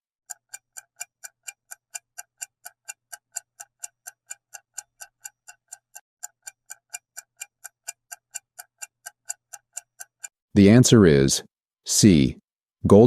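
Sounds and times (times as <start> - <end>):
clock ticking: 0.0 - 11.2.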